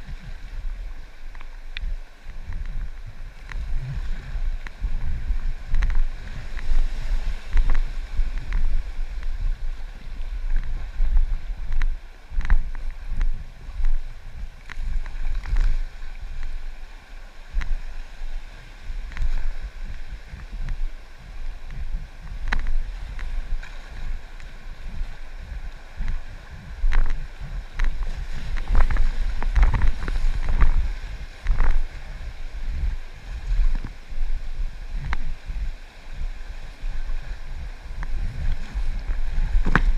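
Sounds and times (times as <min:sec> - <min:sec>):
river water rushing and splashing: 0:00.0 - 0:39.9
wind buffeting microphone: 0:00.0 - 0:39.9.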